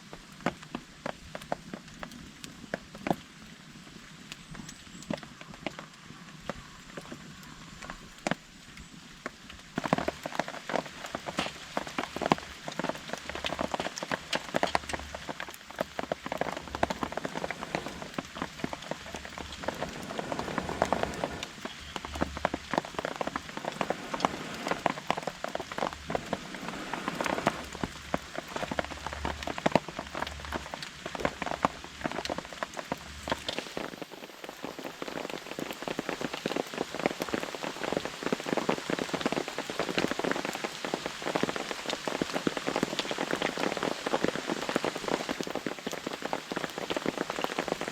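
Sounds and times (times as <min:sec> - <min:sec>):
rain drumming on a tarp: 0:00.0 - 0:47.9.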